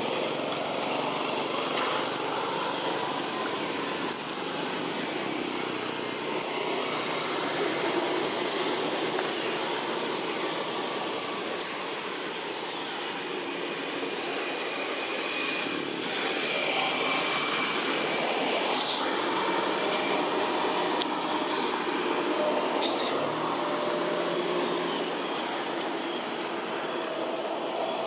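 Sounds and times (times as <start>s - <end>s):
rushing outdoor background noise: 0.0s - 28.0s.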